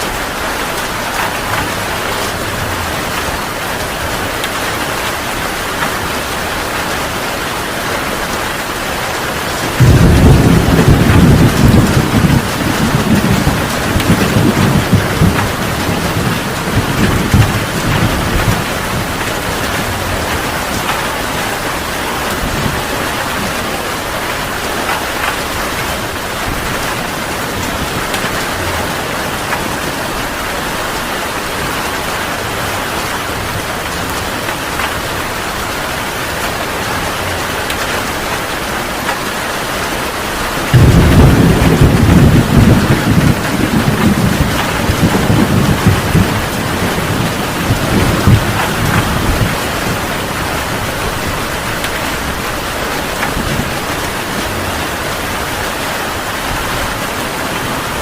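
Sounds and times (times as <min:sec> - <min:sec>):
thunder clap and rumble: 0:00.0 - 0:07.2, 0:08.0 - 0:58.0
heavy rain pouring: 0:00.0 - 0:58.0.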